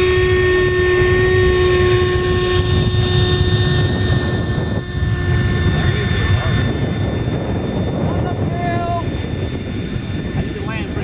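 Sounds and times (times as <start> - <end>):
model airplane motor whining: 0.0 - 11.0.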